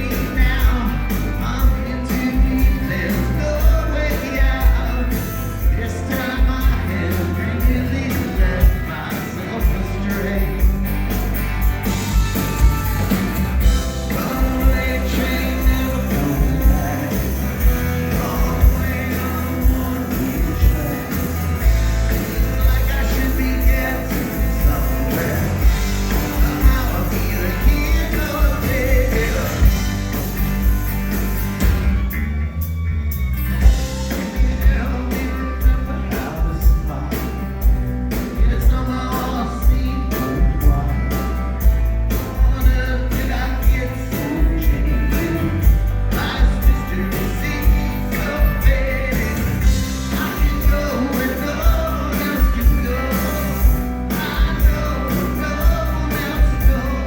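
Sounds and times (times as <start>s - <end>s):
lead singer vocals: 0.0s - 30.6s, 33.5s - 57.0s
rock band playing live: 0.0s - 57.0s
steady drum beat: 0.0s - 57.0s.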